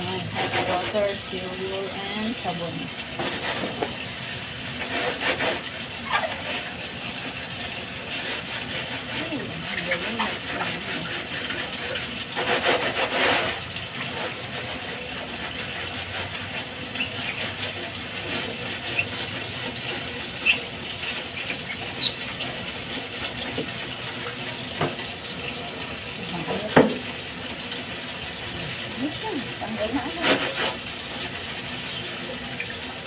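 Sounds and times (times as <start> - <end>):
water running from a sink tap: 0.0 - 33.0.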